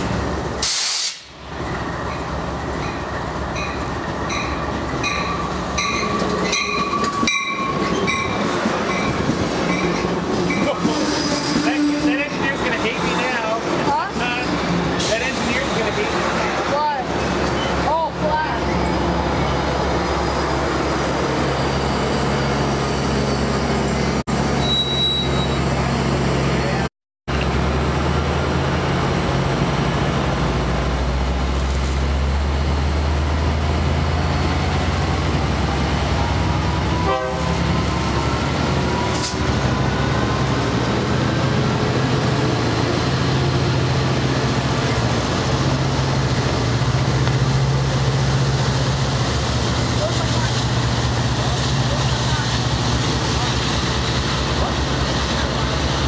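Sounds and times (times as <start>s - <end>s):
diesel locomotive droning: 0.0s - 56.0s
train rolling past: 0.0s - 56.0s.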